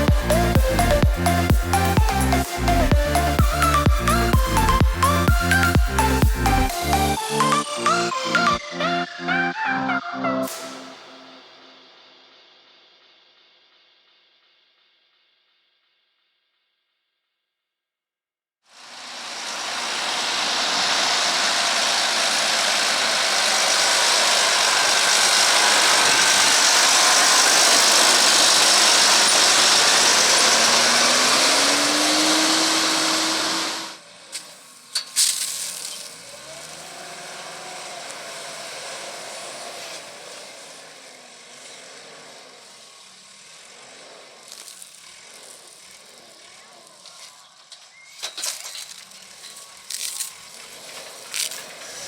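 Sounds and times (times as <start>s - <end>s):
tractor and baler mechanical rush: 0.0s - 8.9s, 18.8s - 52.0s
wavering engine hum: 0.0s - 12.9s, 18.8s - 52.0s.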